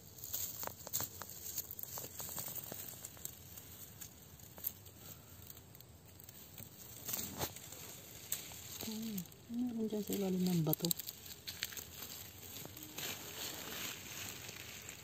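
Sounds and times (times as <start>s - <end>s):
twigs and leaves rustling: 0.0s - 15.0s.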